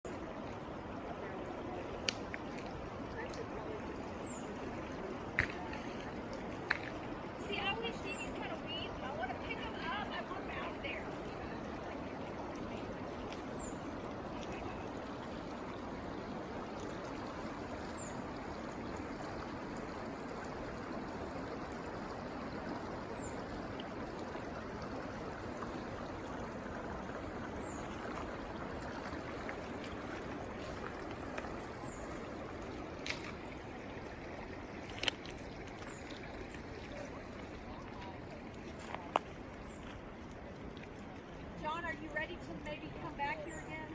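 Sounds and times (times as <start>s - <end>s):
rushing mountain stream: 0.0s - 43.9s.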